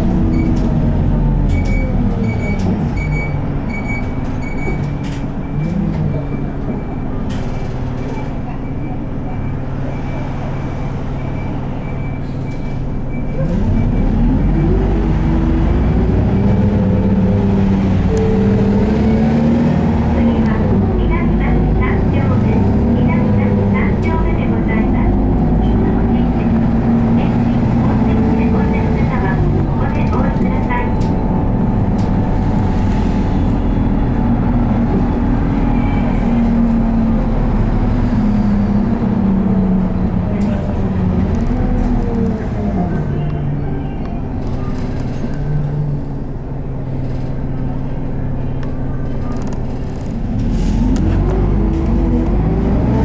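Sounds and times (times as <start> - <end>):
bus diesel engine revving: 0.0 - 53.0
road rumble: 0.0 - 53.0.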